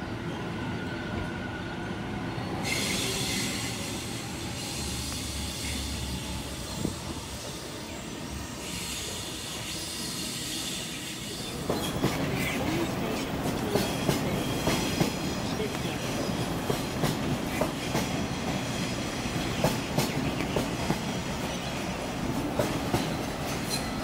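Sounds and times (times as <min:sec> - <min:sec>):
electric train running on rails: 0:00.0 - 0:24.0
train wheel squeal: 0:00.8 - 0:16.9, 0:17.5 - 0:24.0.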